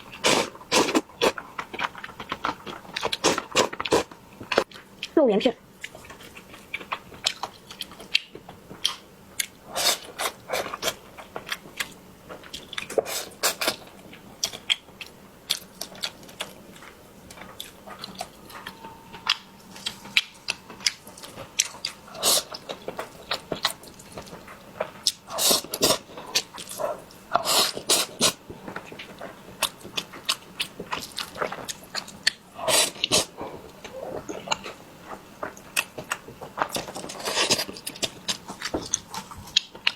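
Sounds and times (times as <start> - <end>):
person chewing: 0.0 - 5.2, 5.8 - 39.9.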